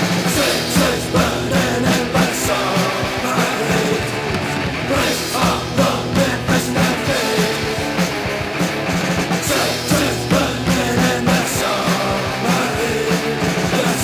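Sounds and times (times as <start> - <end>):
punk rock song: 0.0 - 14.0.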